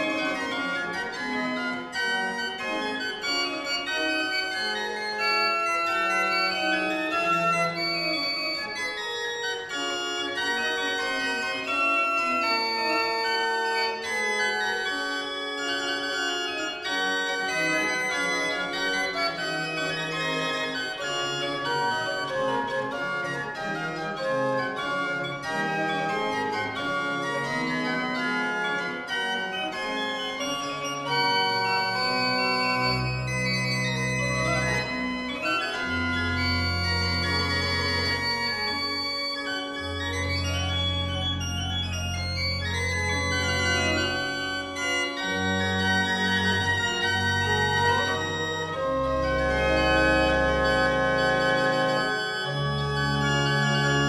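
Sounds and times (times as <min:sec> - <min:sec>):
deep organ pedal bass notes: 0:00.0 - 0:54.0
pipe organ playing: 0:00.0 - 0:54.0.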